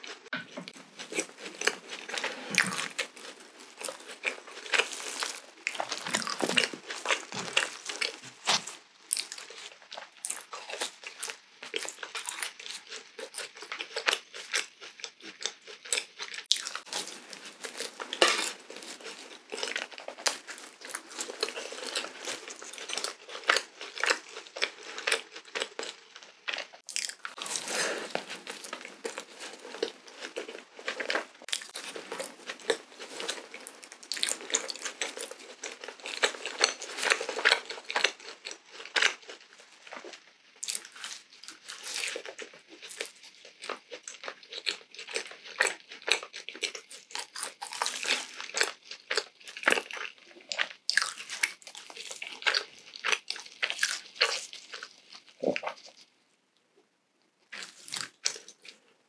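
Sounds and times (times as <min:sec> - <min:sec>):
biting and chewing doughnut: 0:00.0 - 0:56.1, 0:57.5 - 0:59.0.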